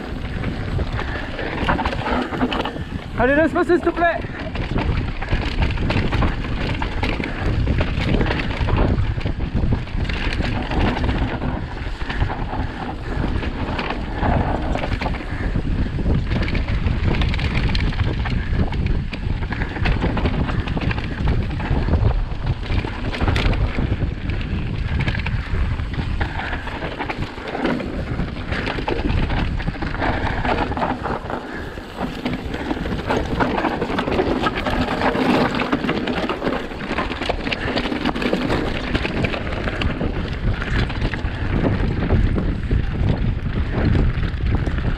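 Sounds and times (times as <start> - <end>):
bike tyres rattling over rocks: 0.0 - 44.9
wind buffeting microphone: 0.0 - 44.9.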